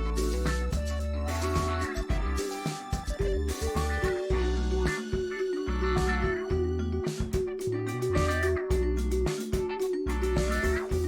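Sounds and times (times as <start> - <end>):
background music with guitar: 0.0 - 11.0.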